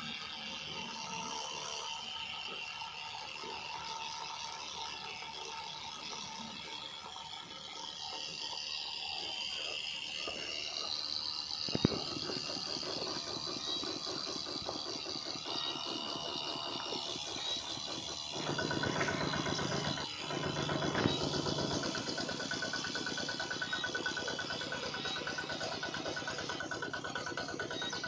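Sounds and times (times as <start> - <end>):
small water pump motor running: 0.0 - 28.0.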